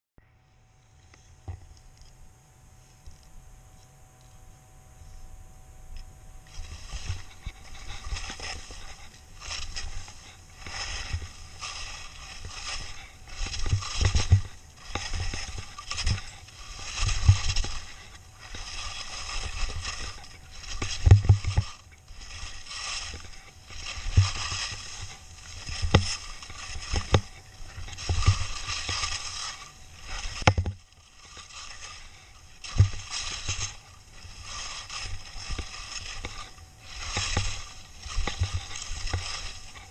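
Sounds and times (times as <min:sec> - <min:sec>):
skis scraping over snow: 0:06.3 - 0:39.9.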